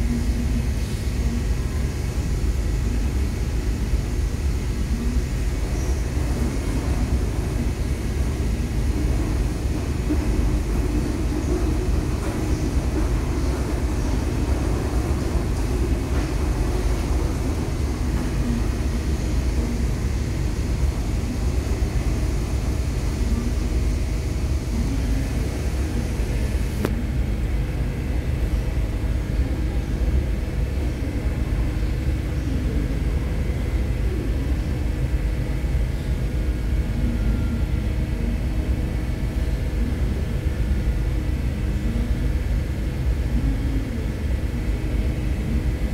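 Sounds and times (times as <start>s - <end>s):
low engine rumble: 0.0s - 45.9s
steady tonal hum: 0.0s - 45.9s.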